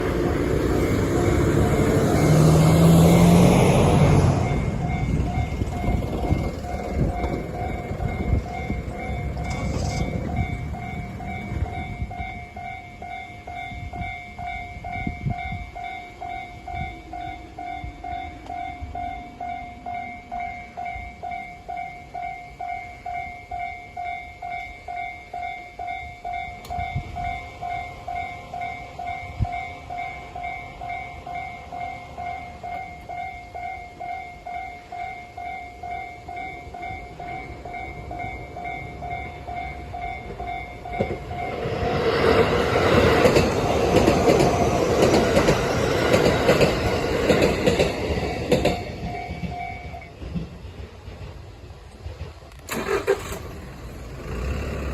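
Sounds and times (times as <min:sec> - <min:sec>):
level crossing warning bell: 0:00.0 - 0:50.3
train rumbling past: 0:00.0 - 0:54.9.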